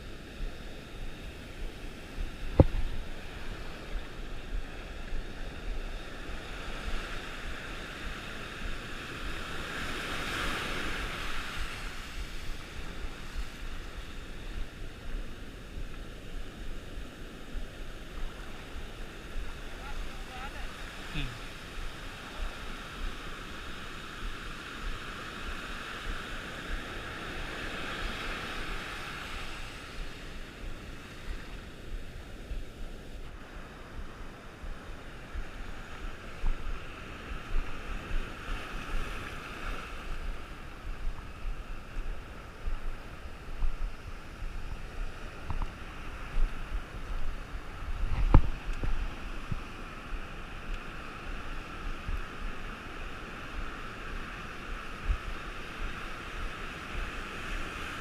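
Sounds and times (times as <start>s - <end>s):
wind buffeting microphone: 0.0s - 20.3s, 20.9s - 58.0s
ocean waves washing in: 0.0s - 58.0s.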